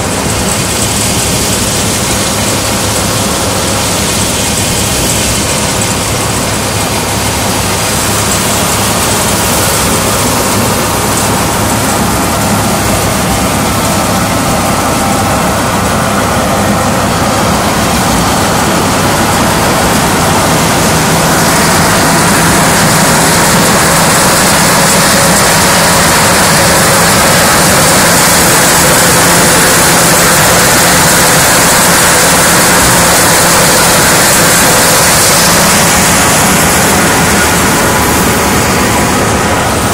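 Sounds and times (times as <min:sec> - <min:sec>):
threshing machine drone: 0:00.0 - 0:39.9.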